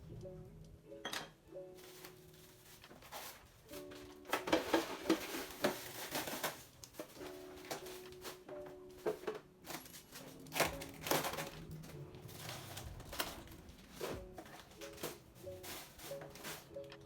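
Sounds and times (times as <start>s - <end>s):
soft background music: 0.0s - 17.0s
plastic packaging crinkling and knocking: 1.8s - 17.0s.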